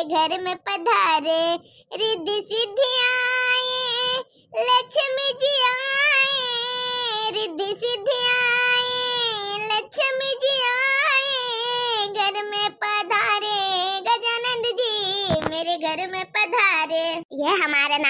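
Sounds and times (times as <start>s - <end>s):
high-pitched voice singing unaccompanied: 0.0s - 18.0s.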